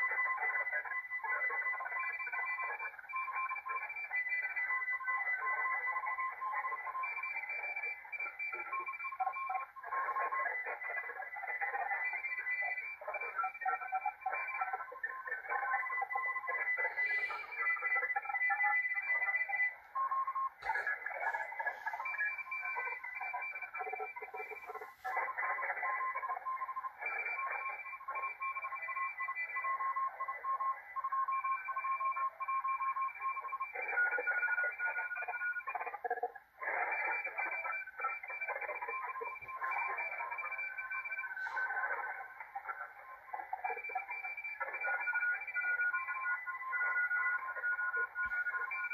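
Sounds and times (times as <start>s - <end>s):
morse code beeps: 0.0s - 48.9s
radio static hiss: 7.8s - 32.4s, 33.4s - 48.9s.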